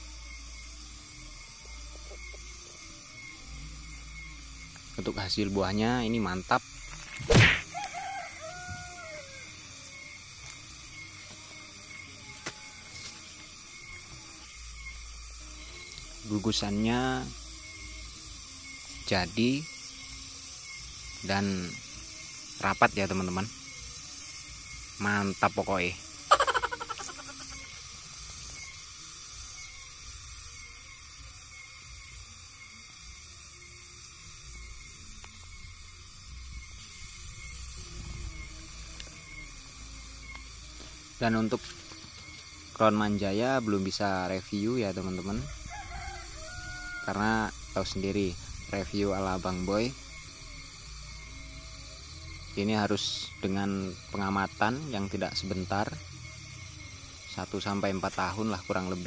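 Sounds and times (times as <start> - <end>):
outdoor ambience hiss: 0.0 - 59.0.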